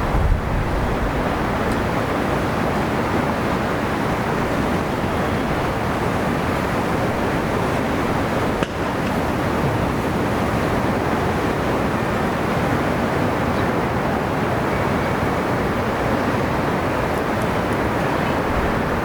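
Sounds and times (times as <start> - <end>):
sea surf rushing on shore: 0.0 - 19.0.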